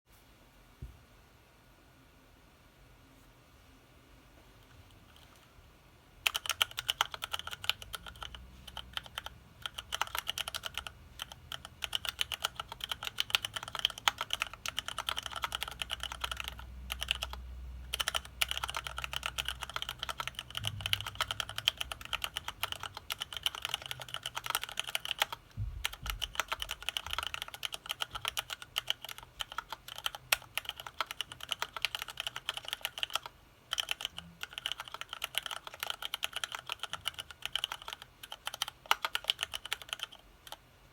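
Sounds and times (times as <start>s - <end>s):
keyboard typing clacks: 6.2s - 40.6s.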